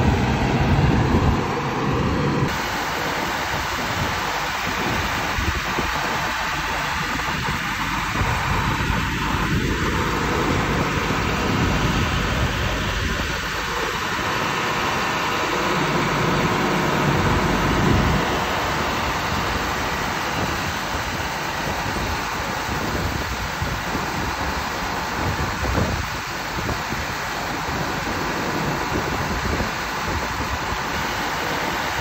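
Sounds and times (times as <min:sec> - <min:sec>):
farm machinery engine drone: 0:00.0 - 0:32.0.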